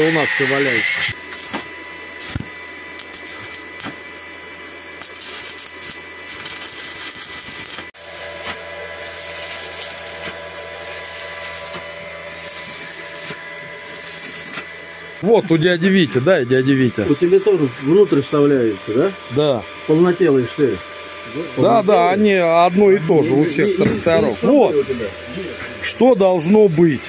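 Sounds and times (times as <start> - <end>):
machine hum with high whine: 0.0 - 27.0.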